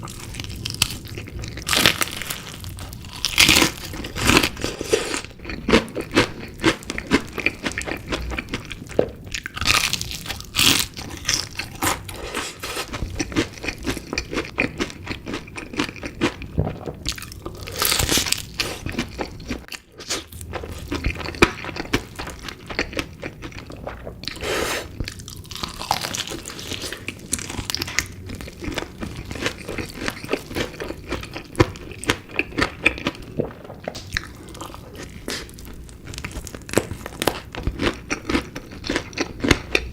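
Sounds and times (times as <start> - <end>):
crunchy chewing of chicken: 0.0 - 39.9.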